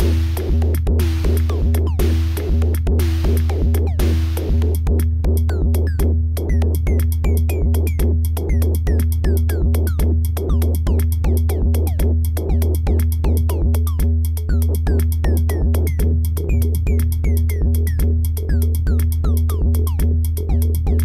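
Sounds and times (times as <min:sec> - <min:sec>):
electronic kick drum: 0:00.0 - 0:21.0.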